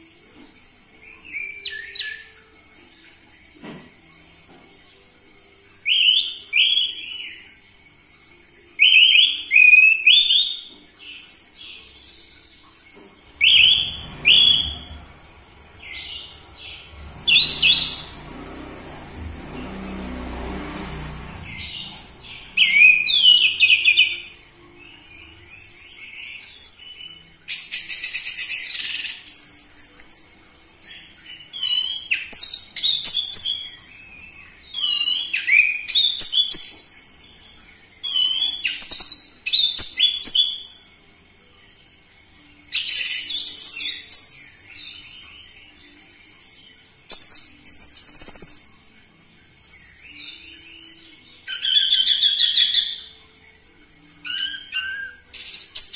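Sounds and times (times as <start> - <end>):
thrush singing whistles and trills: 5.3 - 18.6, 21.4 - 41.0, 42.4 - 55.9.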